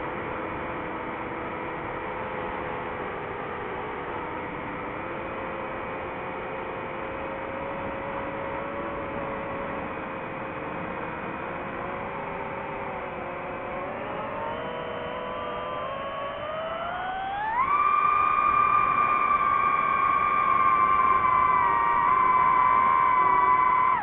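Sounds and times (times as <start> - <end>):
drone motors and propellers: 0.0 - 24.0.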